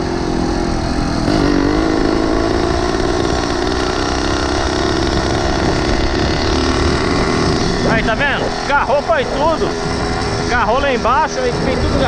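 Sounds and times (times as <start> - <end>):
small bicycle engine running: 0.0 - 12.0.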